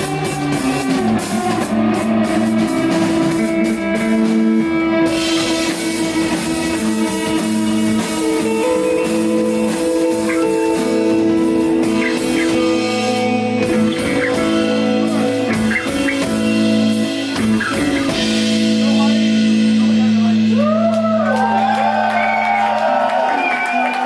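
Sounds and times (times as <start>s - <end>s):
drum and cymbal hits: 0.0s - 21.2s
bass guitar: 0.0s - 24.0s
electric guitar sustained notes: 0.0s - 24.0s.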